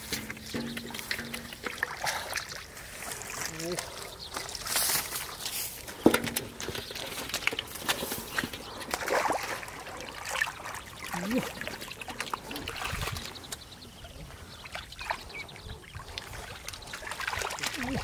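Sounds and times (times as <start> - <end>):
water dripping: 0.0 - 13.7, 14.5 - 18.0
muddy water trickling and splashing: 0.0 - 18.0.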